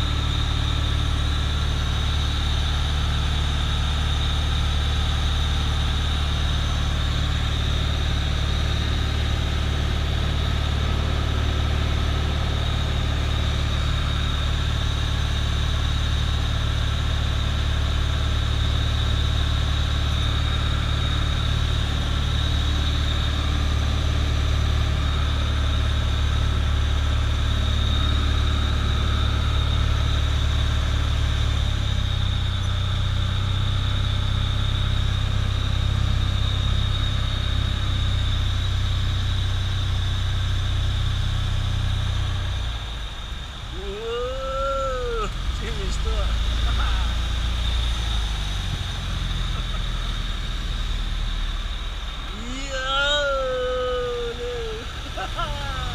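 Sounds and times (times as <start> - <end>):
light aircraft engine drone: 0.0 - 55.9.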